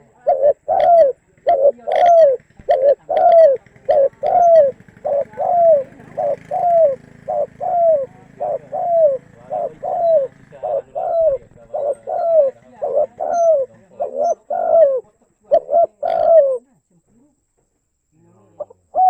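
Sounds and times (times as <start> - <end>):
dove cooing: 0.0 - 16.7, 18.6 - 19.0.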